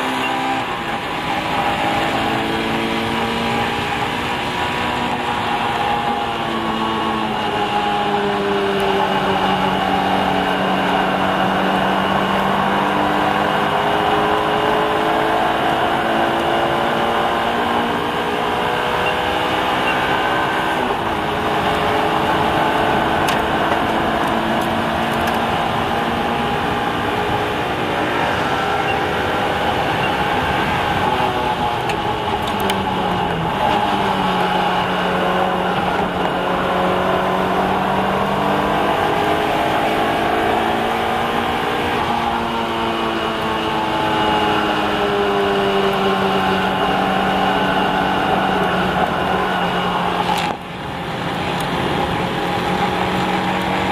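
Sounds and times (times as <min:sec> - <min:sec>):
car engine revving hard: 0:00.0 - 0:53.9.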